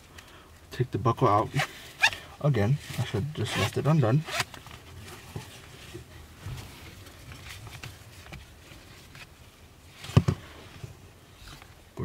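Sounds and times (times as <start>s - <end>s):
strap webbing rustling: 1.5s - 2.2s, 2.8s - 12.0s.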